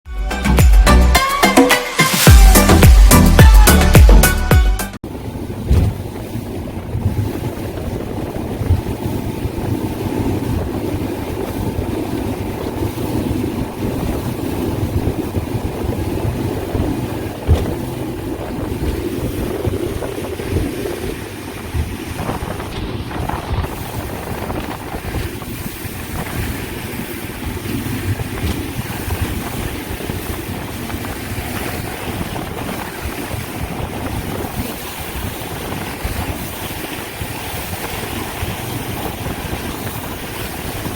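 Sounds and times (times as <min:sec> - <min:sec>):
water rushing along hull: 0:00.0 - 0:40.9
wind buffeting microphone: 0:05.0 - 0:40.9.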